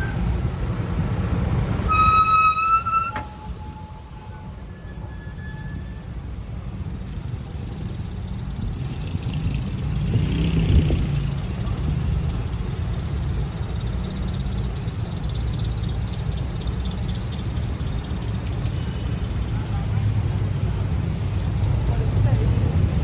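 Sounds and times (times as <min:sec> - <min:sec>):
traffic engines rumbling: 0:00.0 - 0:23.0.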